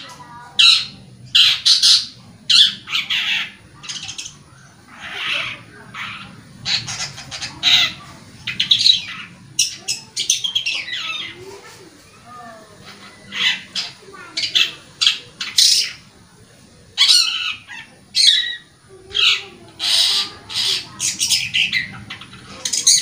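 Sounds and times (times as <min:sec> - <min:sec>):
bird harsh scratchy calls: 0:00.0 - 0:16.1, 0:17.0 - 0:23.0.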